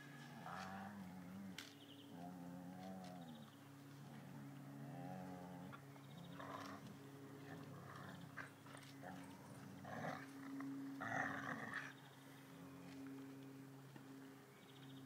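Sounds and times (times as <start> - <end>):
dogs growling in play: 0.2 - 13.2.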